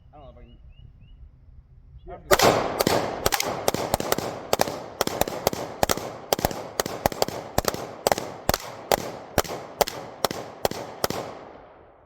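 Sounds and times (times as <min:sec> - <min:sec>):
rapid gunshots with echo: 0:02.3 - 0:12.0.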